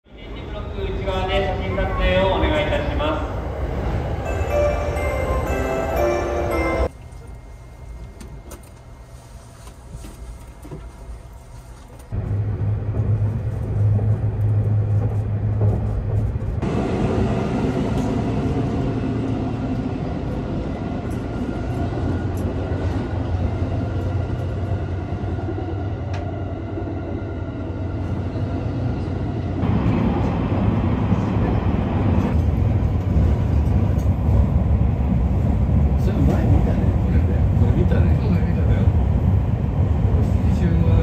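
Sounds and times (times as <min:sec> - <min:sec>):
train rumble inside carriage: 0:00.1 - 0:41.0.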